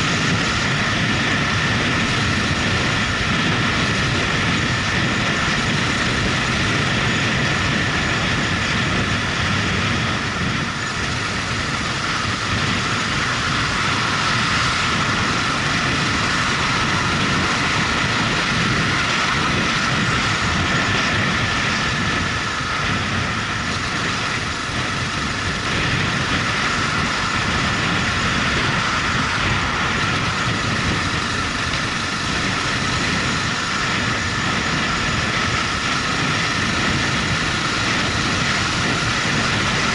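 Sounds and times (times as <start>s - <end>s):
motorcycle engine running: 0.0s - 39.9s
wind noise rushing: 0.0s - 39.9s.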